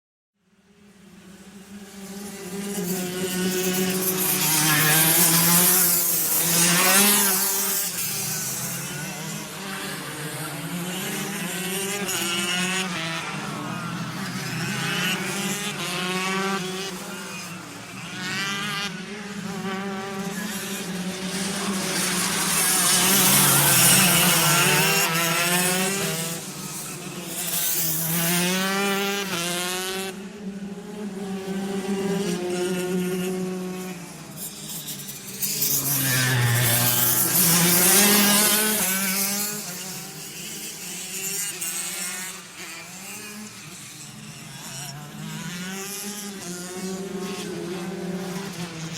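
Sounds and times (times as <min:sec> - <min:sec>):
go-kart engines passing: 0:00.6 - 0:48.9.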